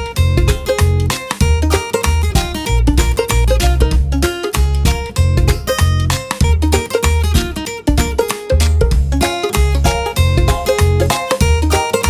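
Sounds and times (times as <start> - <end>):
plucked guitar-like notes: 0.0 - 12.0
pulsing bass: 0.0 - 12.0.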